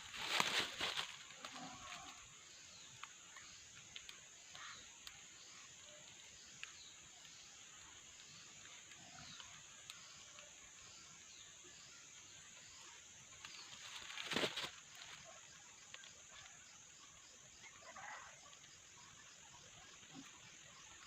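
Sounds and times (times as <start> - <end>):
rustle: 0.0 - 21.0.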